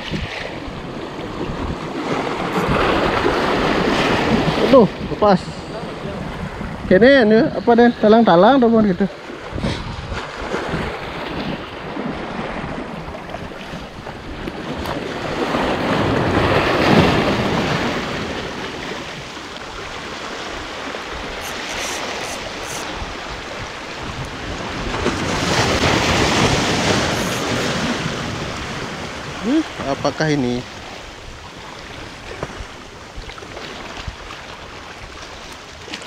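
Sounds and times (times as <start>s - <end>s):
waves on rocky shore: 0.0s - 36.0s
wind buffeting microphone: 0.0s - 36.0s.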